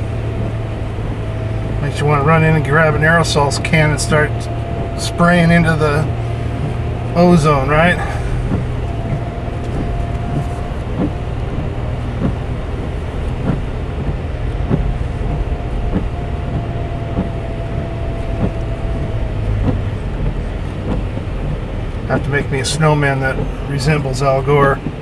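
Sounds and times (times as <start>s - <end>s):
car engine rumble from inside: 0.0s - 25.0s
thin steady whine: 0.0s - 25.0s.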